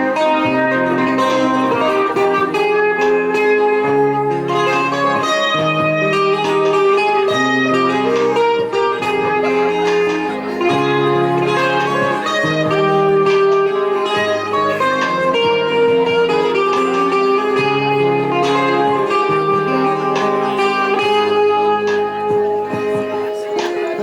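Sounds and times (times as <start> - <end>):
bass line: 0.0 - 23.5
plucked string instrument: 0.0 - 24.0.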